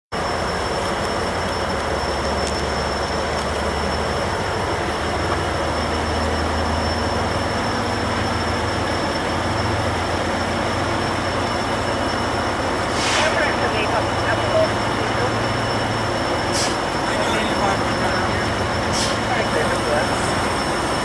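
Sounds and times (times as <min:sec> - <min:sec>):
freight train wheels rumbling: 0:00.2 - 0:21.0
high-pitched wheel squeal: 0:00.2 - 0:21.0.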